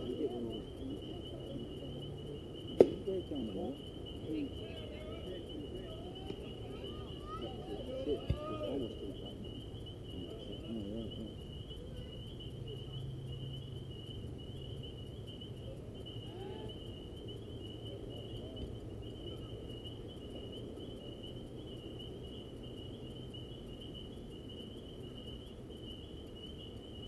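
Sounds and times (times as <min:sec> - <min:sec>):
crickets trilling: 0:00.0 - 0:27.0
low steady hum: 0:00.0 - 0:27.0.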